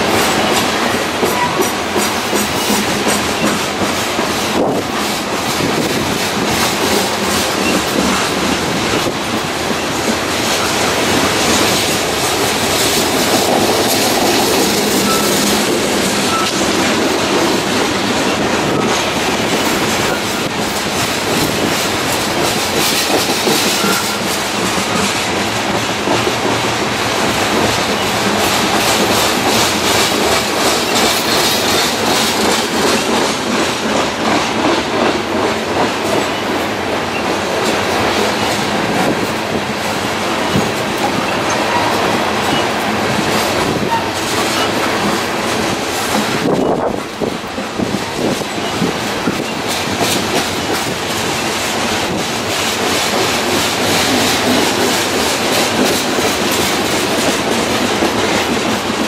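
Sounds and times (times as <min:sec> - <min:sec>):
train wheels clacking on rail joints: 0:00.0 - 0:59.0.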